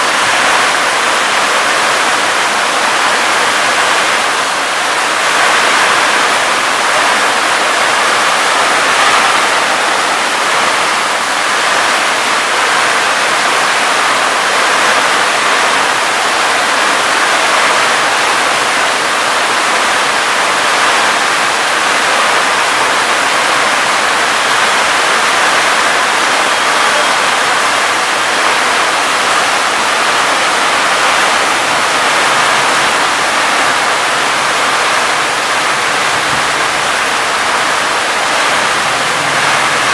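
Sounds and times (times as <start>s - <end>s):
heavy rain on roofs: 0.0s - 39.9s
water pouring off roof edges: 0.0s - 39.9s.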